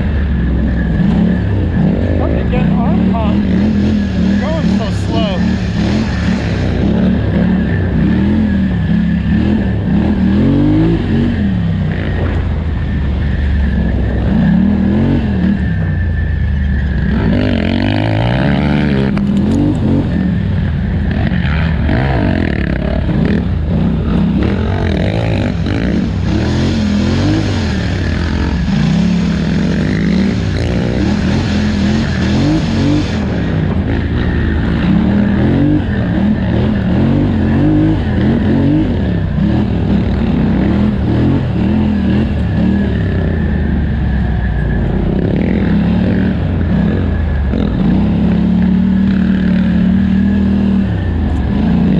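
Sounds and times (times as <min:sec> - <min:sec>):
engine revving: 0:00.0 - 0:51.9.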